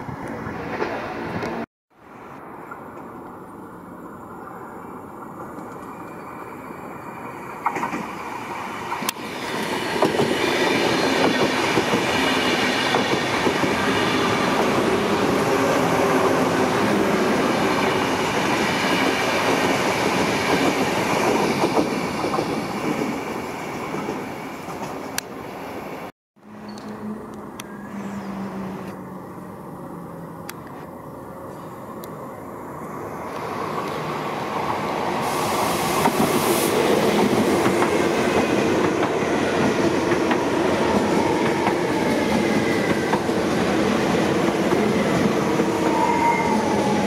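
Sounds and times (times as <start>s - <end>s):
electric train passing: 0.0s - 47.0s.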